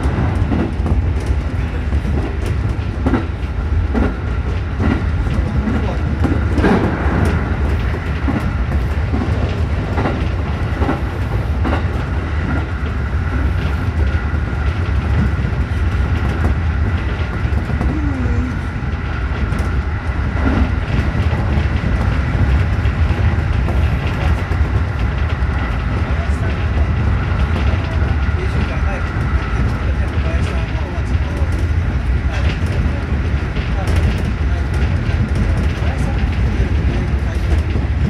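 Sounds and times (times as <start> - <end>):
rail joint clicks: 0.0 - 38.0
train wheels rumbling on rails: 0.0 - 38.0.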